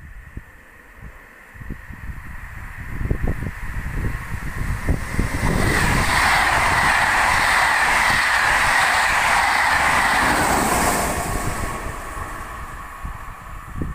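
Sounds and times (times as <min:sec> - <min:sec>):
passenger train passing at speed: 0:00.0 - 0:13.9
wheels rushing on rails: 0:00.0 - 0:13.9.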